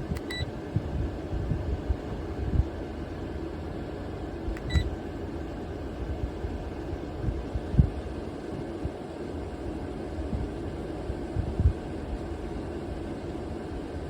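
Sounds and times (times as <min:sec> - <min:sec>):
fan airflow rumbling on microphone: 0:00.0 - 0:14.0.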